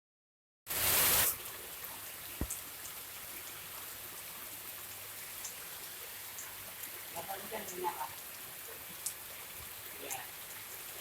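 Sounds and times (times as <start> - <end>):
heavy rain falling: 0.7 - 11.0.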